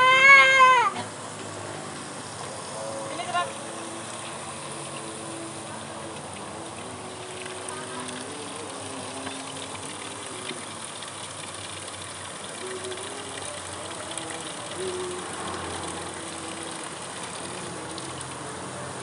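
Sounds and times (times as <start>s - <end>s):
water stream splashing on hands: 3.4s - 19.0s.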